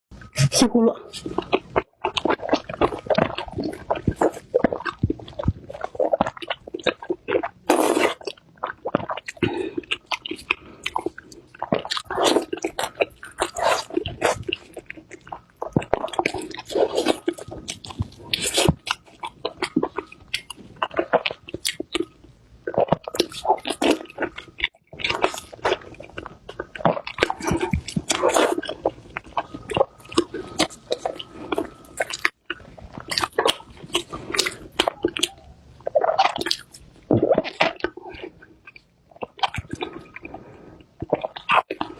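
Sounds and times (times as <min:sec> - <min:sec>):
crunchy biting and chewing: 0:00.2 - 0:41.9.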